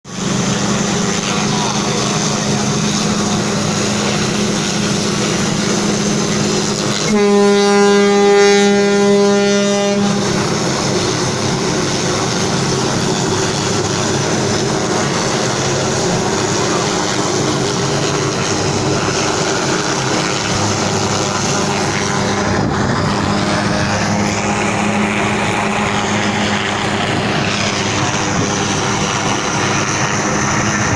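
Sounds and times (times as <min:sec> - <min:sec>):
rushing noise: 0:00.1 - 0:30.9
ship engine droning: 0:00.1 - 0:30.9
ship's horn blast: 0:00.1 - 0:30.9.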